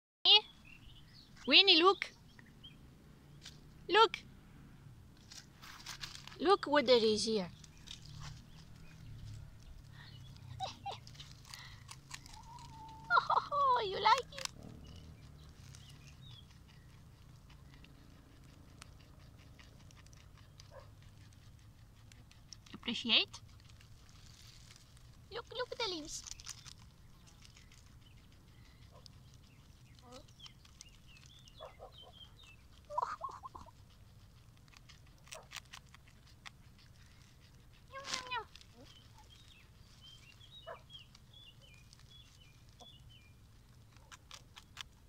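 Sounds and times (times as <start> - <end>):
guinea pig chewing: 6.8 - 45.0.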